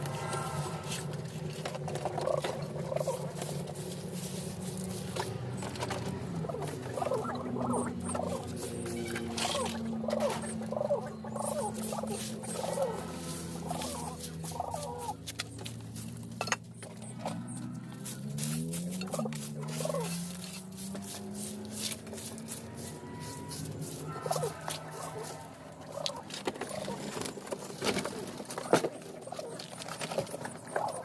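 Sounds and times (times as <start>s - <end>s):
low steady drone: 0.0s - 27.3s
birds chirping: 0.0s - 31.0s.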